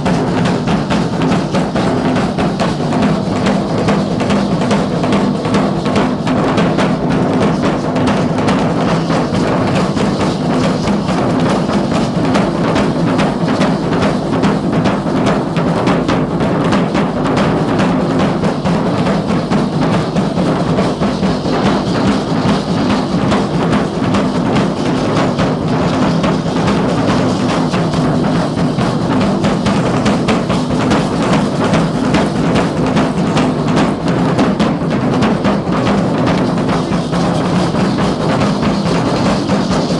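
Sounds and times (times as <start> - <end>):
drums beating fast rhythm: 0.0 - 39.9.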